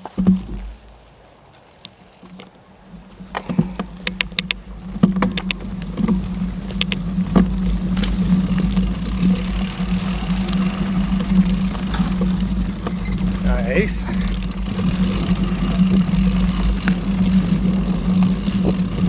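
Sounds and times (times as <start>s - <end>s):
bike clicks and knocks: 0.0s - 19.0s
bike tyres rumbling on dirt: 0.0s - 19.0s.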